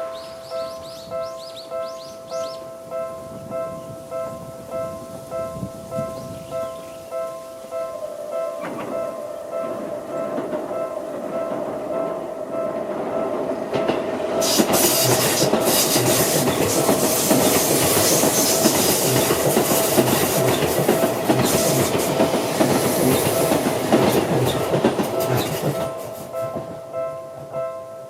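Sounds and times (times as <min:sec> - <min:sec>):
level crossing alarm bell: 0:00.0 - 0:28.0
train wheel and rail noise: 0:00.0 - 0:28.0.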